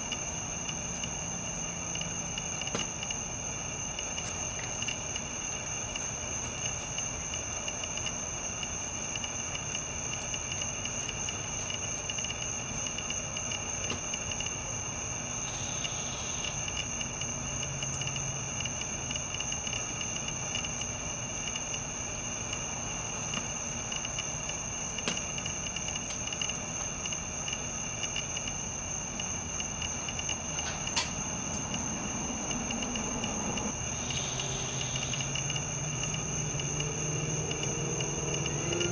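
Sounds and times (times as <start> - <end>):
high-pitched insect trilling: 0.0 - 38.9.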